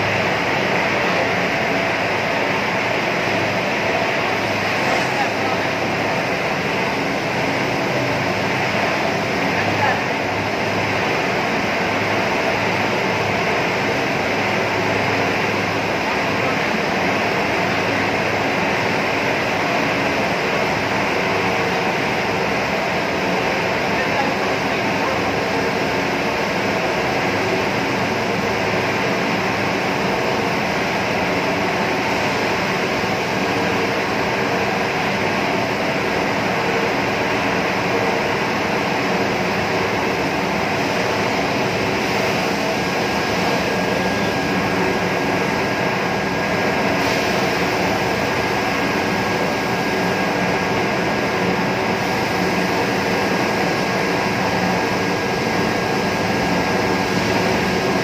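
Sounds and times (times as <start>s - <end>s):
loud machinery drone: 0.0s - 58.0s.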